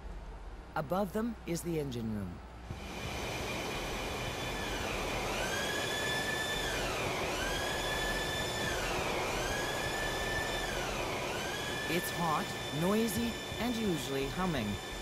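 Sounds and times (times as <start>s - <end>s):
engine-room machinery with whine: 2.6s - 15.0s.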